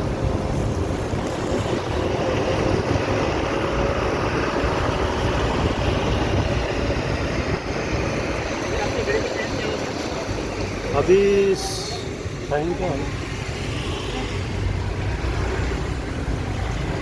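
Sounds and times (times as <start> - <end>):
boat engine rumbling: 0.0 - 17.0
wind: 0.0 - 17.0.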